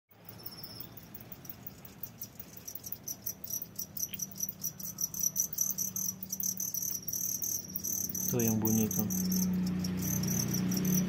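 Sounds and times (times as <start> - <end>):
crickets chirping: 0.1 - 11.0.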